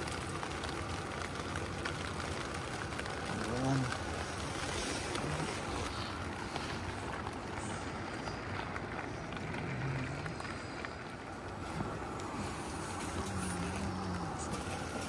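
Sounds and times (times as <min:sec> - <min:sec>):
rain on tent fabric: 0:00.0 - 0:15.0.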